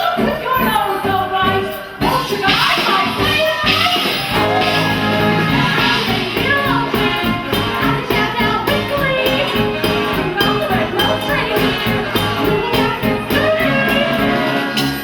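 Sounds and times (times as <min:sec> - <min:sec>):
person singing: 0:01.1 - 0:14.8
upbeat band with steady beat: 0:01.6 - 0:15.0.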